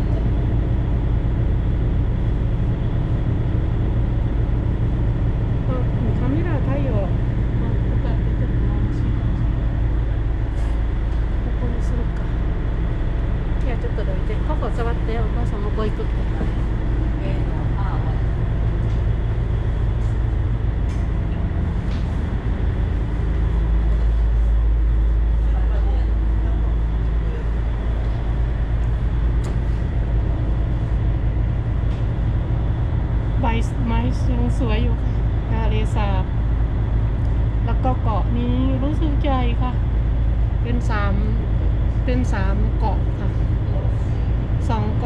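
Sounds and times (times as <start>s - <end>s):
boat engine droning: 0.0s - 45.0s
water rushing along a hull: 0.0s - 45.0s.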